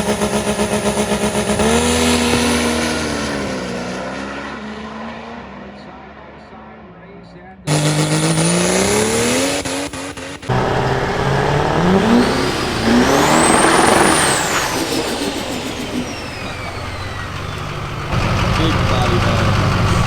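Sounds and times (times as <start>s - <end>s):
diesel truck engines accelerating: 0.0s - 20.0s.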